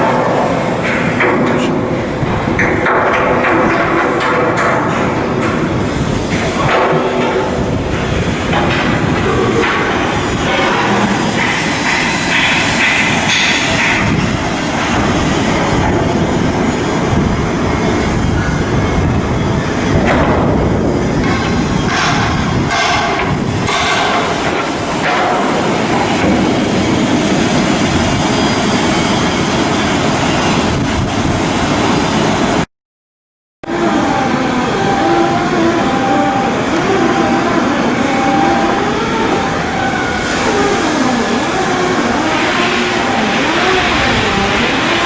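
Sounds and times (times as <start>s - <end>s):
heavy machinery rumbling: 0.0s - 32.7s, 33.6s - 45.0s.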